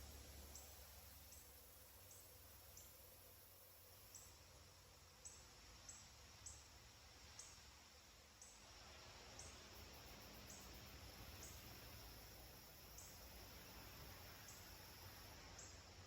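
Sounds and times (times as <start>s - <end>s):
soft hiss: 0.0s - 16.0s.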